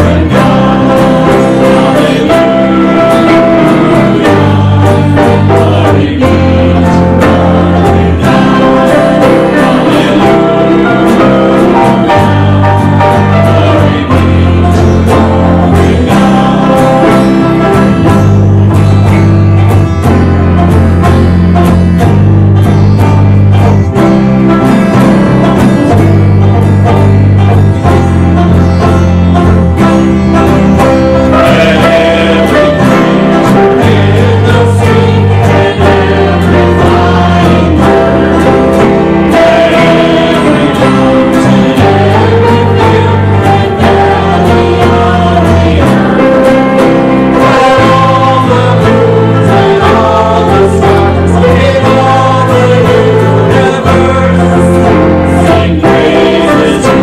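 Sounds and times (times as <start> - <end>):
congregation singing a hymn: 0.0 - 57.0
instrumental accompaniment: 0.0 - 57.0.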